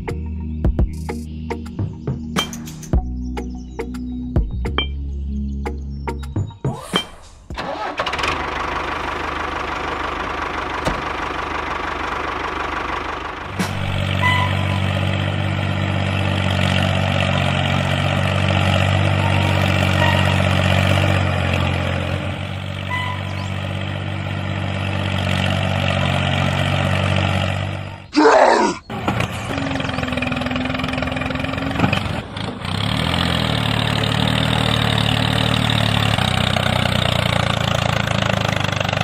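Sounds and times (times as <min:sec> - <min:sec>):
small tractor engine drone: 0:07.0 - 0:39.0.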